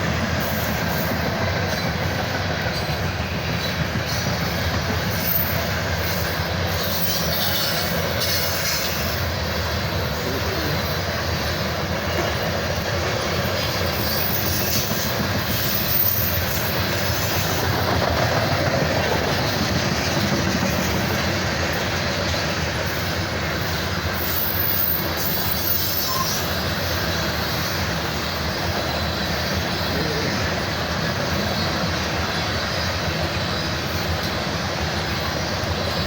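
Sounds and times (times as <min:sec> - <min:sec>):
train wheels clattering on rails: 0:00.0 - 0:36.0.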